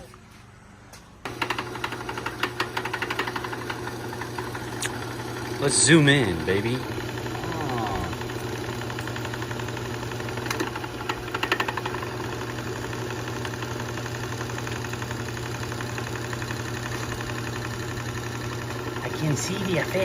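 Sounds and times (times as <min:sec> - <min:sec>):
ultrasonic cleaner buzzing hum: 0:00.0 - 0:20.0.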